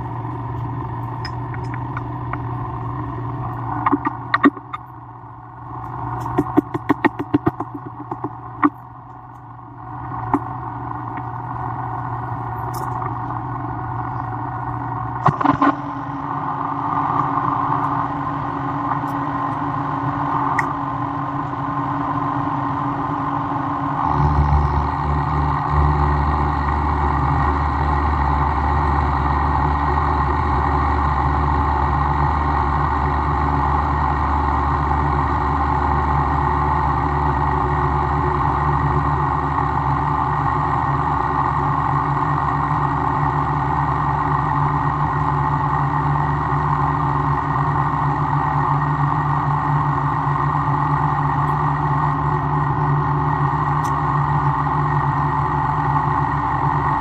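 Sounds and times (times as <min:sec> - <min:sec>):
workshop machine humming: 0:00.0 - 0:57.0.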